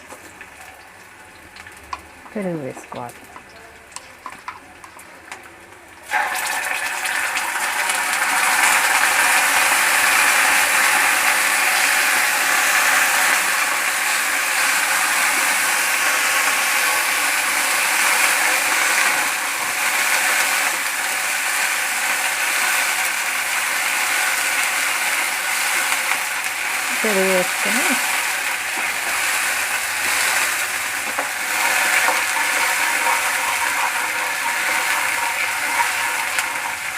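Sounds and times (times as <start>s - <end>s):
loud sizzling in hot oil: 0.0s - 36.9s.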